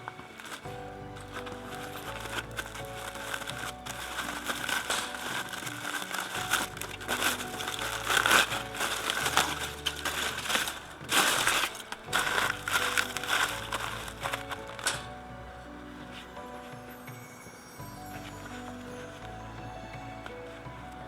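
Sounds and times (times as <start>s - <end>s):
background music: 0.0s - 21.0s
crinkling handling noise: 0.0s - 21.0s.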